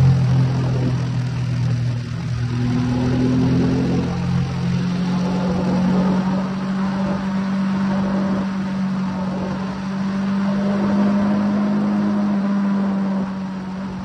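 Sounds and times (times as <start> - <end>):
motorcycle engine cruising: 0.0 - 14.0
wind and road noise: 0.0 - 14.0.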